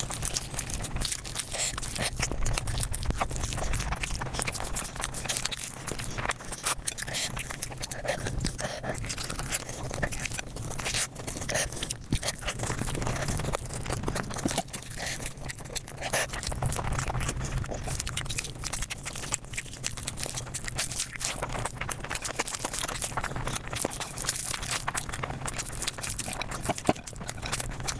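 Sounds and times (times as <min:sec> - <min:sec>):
rapid chewing and crunching: 0:00.0 - 0:27.9.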